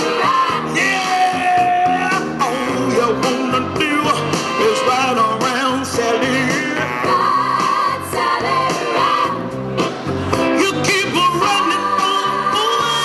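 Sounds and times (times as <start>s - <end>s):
backing track: 0.0s - 13.0s.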